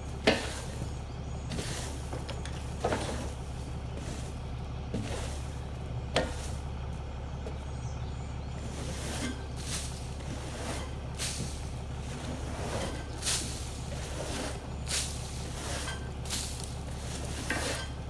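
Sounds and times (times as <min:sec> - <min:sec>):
broom sweeping wood chips: 0:00.0 - 0:06.8, 0:08.6 - 0:18.0
steady low hum: 0:00.0 - 0:18.0.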